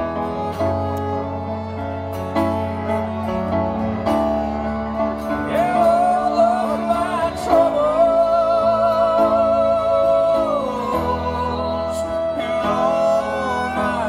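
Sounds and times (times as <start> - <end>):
acoustic guitar chords: 0.0 - 14.0
keyboard chords: 0.0 - 14.0
violin playing melody with vibrato: 0.0 - 14.0.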